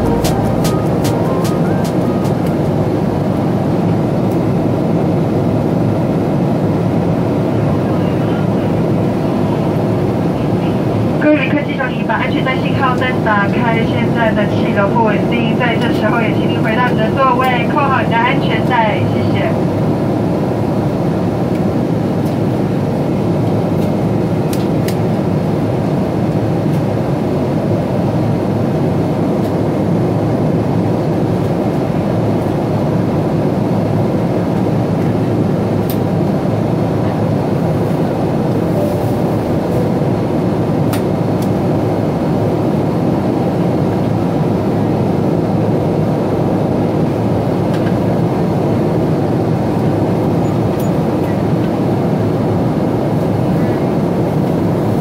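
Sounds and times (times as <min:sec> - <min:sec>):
airplane cabin airflow and engines: 0:00.0 - 0:55.0.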